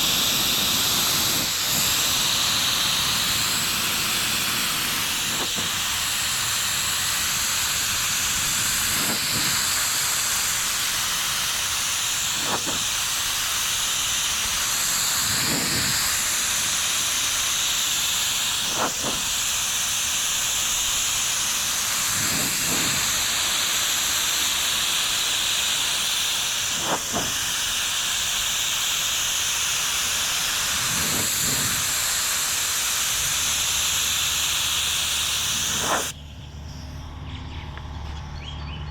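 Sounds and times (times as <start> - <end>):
spray gun hissing: 0.0 - 36.3.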